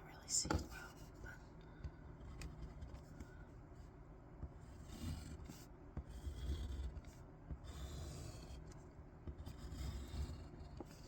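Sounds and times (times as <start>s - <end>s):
scratching across paper: 2.0s - 11.0s.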